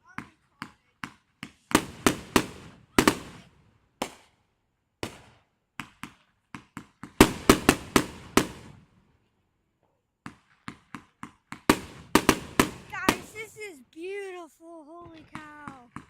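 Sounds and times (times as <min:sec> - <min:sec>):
fireworks bangs: 0:00.1 - 0:04.4, 0:05.0 - 0:09.1, 0:10.2 - 0:16.0.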